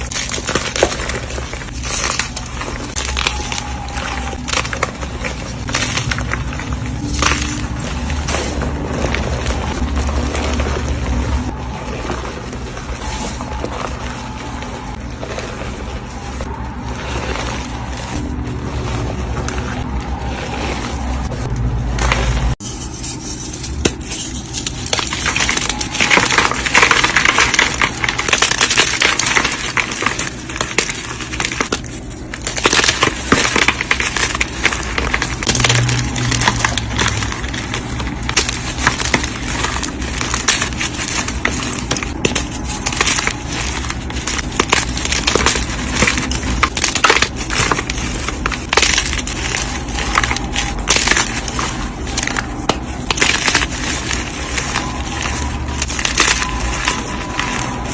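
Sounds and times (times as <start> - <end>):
chalk crushing and crunching: 0.0 - 57.9.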